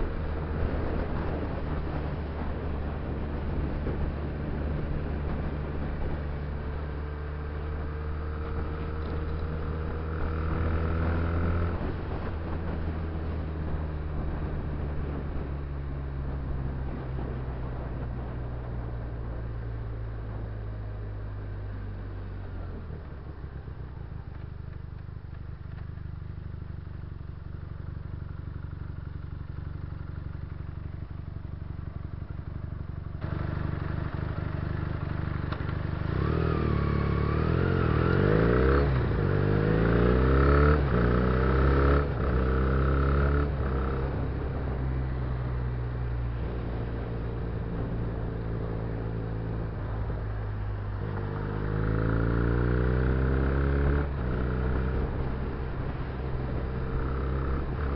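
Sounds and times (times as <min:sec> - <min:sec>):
motorcycle engine revving: 0:00.0 - 0:18.0, 0:25.7 - 0:57.9.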